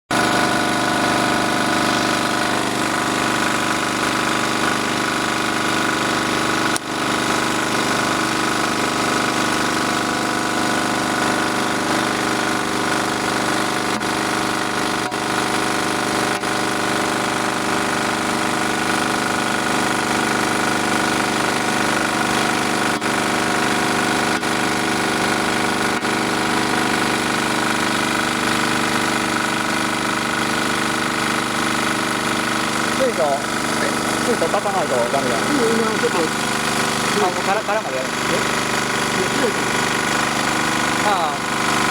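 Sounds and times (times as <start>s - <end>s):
small generator engine running: 0.1s - 41.9s.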